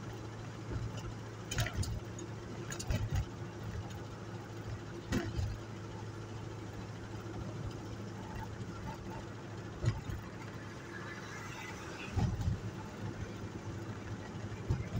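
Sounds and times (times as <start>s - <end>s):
engine and road drone: 0.0s - 14.9s.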